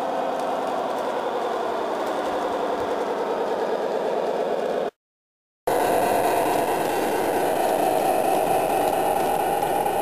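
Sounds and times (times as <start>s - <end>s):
model train running on track: 0.0s - 4.9s, 5.7s - 10.0s.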